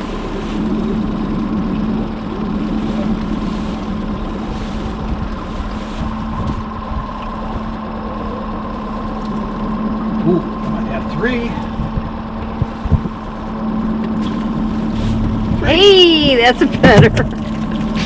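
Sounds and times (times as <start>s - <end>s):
outboard motor idling: 0.0s - 18.0s.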